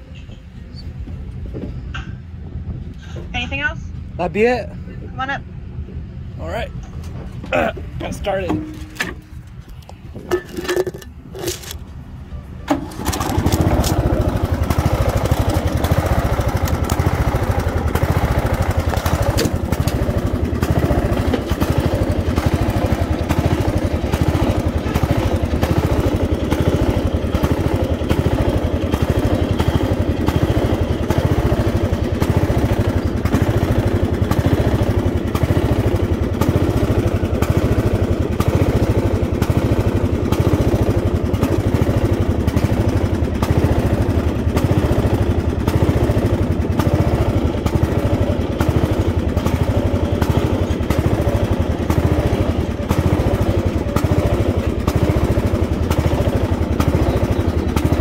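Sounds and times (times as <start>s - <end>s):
lawnmower engine running: 6.4s - 58.0s.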